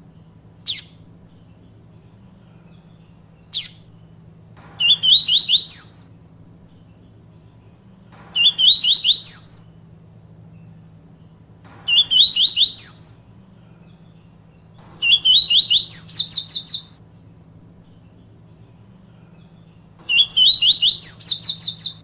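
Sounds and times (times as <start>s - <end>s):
faint hum: 0.0s - 22.0s
seedeater bird singing: 0.0s - 22.0s.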